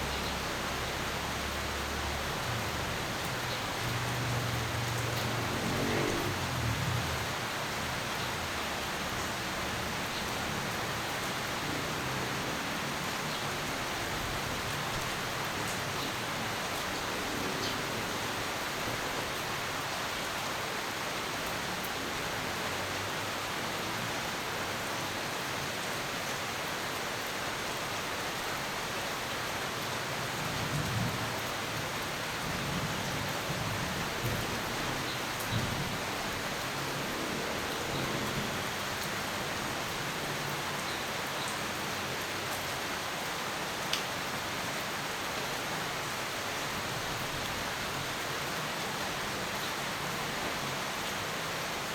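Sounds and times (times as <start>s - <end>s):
steady rain hissing: 0.0s - 51.9s.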